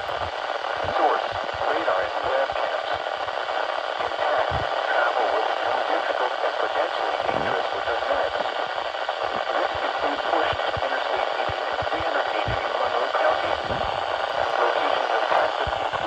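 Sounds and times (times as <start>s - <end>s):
faint crackles: 0.0s - 16.0s
radio static hiss: 0.0s - 16.0s.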